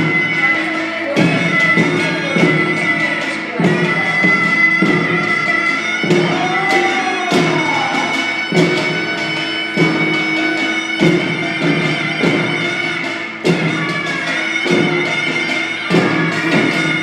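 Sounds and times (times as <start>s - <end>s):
drum beating steadily: 0.0s - 17.0s
shrill wind instrument melody: 0.0s - 17.0s.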